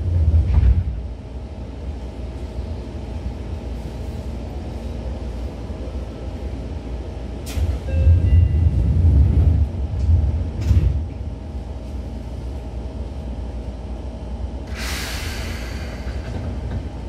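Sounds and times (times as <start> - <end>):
electric train interior rumble: 0.0 - 17.0.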